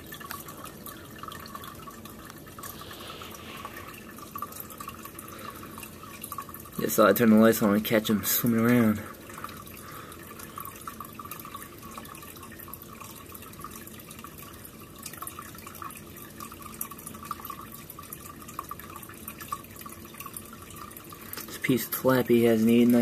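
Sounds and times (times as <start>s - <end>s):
aquarium filter water trickling: 0.0s - 23.0s
small water drips: 0.0s - 23.0s.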